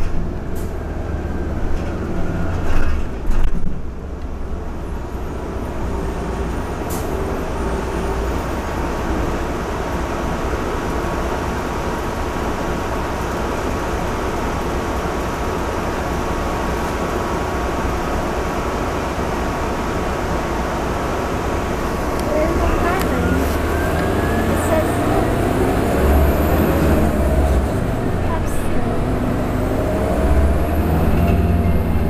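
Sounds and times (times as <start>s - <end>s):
bus engine running: 0.0s - 32.0s
road and cabin noise: 0.0s - 32.0s.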